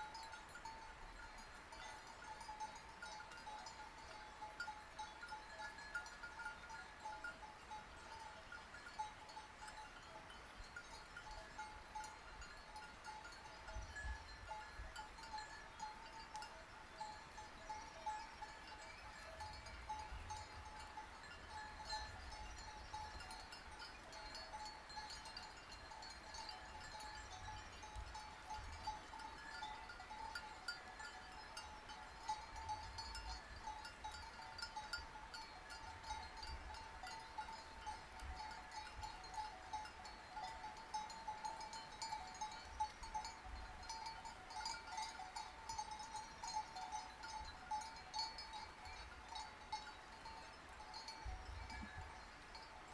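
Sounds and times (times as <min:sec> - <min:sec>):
sheep bells clanking: 0:00.0 - 0:52.9.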